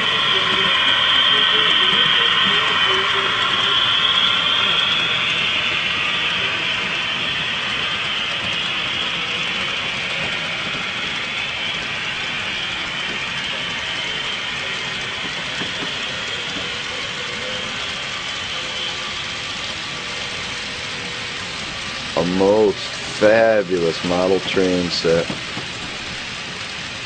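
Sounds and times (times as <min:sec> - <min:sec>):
model trains running on track: 0:00.0 - 0:27.0.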